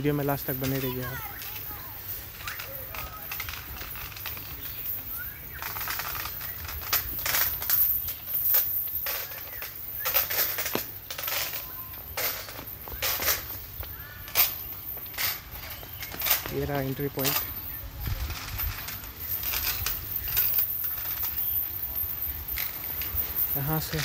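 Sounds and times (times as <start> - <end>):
birds chirping and squawking: 0.0 - 24.0.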